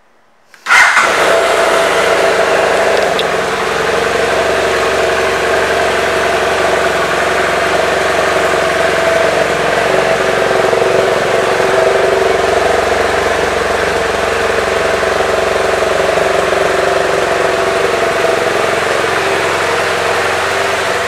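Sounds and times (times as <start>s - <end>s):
motorcycle engine starting and idling: 0.5s - 21.0s.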